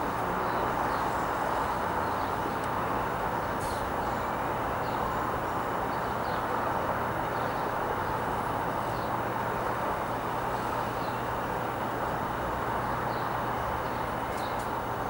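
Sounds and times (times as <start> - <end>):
distant city traffic: 0.0 - 15.0.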